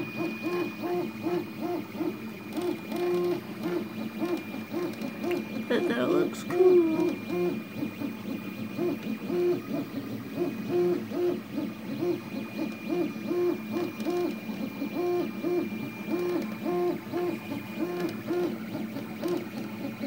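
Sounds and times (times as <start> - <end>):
printer stepper motors singing: 0.0 - 20.0.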